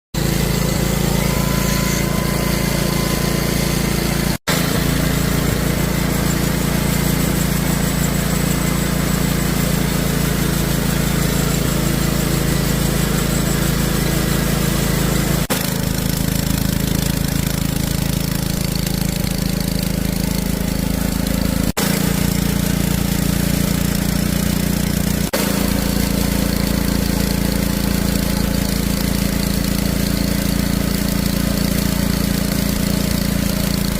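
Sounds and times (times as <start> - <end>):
band sawmill engine droning: 0.2 - 33.9.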